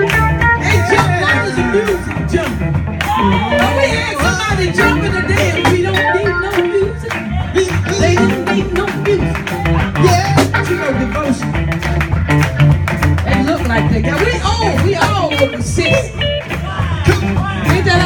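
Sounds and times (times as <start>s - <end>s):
gospel band music: 0.0s - 18.0s
steady drum beat: 0.0s - 18.0s
strong bass line: 0.0s - 18.0s.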